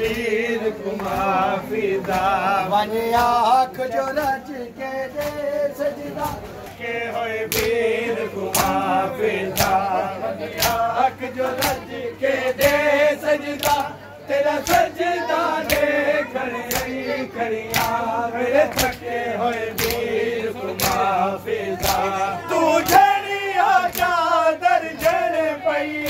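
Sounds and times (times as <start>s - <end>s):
men chanting in chorus: 0.0s - 26.0s.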